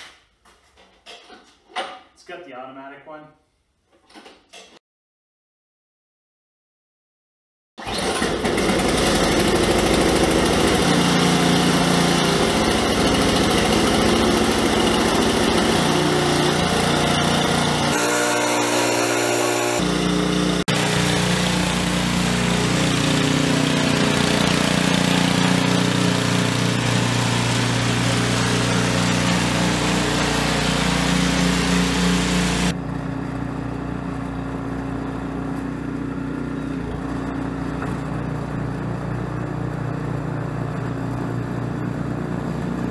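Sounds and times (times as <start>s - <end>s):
snowblower engine running: 7.8s - 42.9s.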